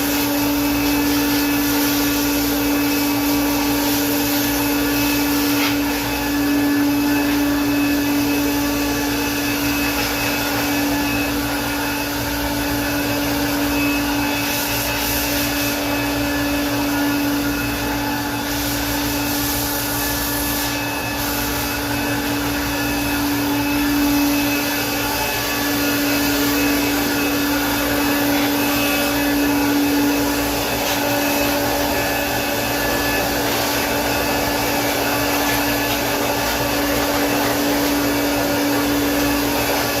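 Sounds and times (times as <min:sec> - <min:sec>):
electric air blower running: 0:00.0 - 0:40.0.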